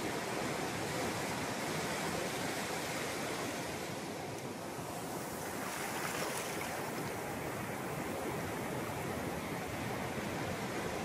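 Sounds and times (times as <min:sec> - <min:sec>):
foamy wash over sand: 0:00.0 - 0:11.0.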